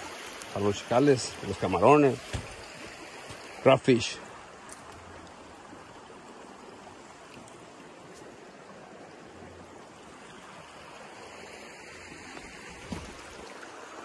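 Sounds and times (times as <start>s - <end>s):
river flowing over rocks: 0.0s - 14.0s.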